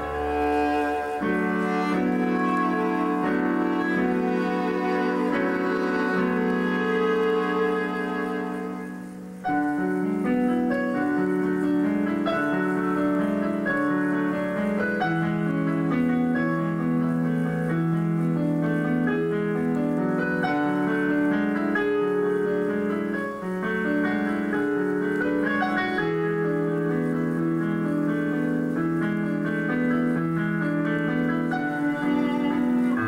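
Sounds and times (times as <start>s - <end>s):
piano playing flowing notes: 0.0s - 33.0s.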